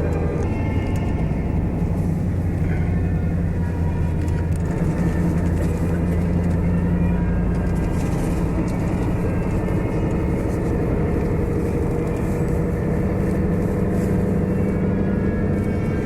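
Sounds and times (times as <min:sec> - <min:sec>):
coach engine and road drone: 0:00.0 - 0:16.0.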